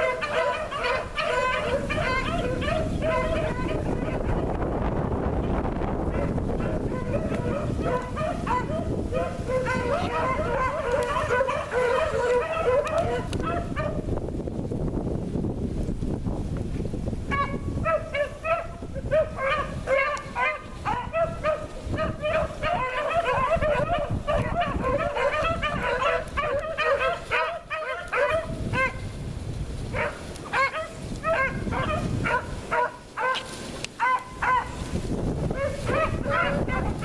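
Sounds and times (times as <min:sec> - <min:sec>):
hounds barking: 0:00.0 - 0:04.8, 0:05.4 - 0:14.1, 0:17.3 - 0:29.1, 0:29.9 - 0:37.0
wind rumbling on microphone: 0:00.0 - 0:37.0.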